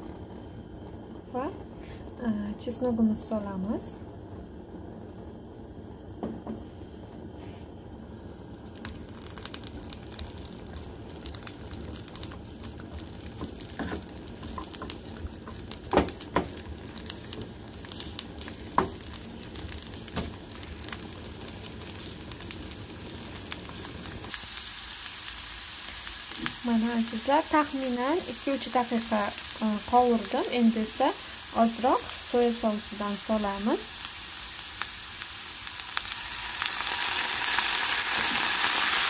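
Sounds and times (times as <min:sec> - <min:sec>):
vegetables sizzling in oil: 0:00.0 - 0:04.0, 0:07.4 - 0:39.0.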